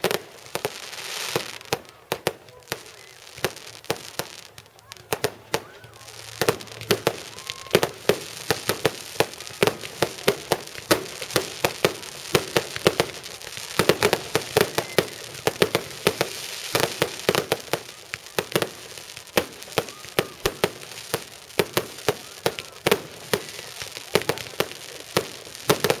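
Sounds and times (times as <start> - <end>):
continuous crackling hiss: 0.0 - 26.0
firework bangs: 0.0 - 26.0.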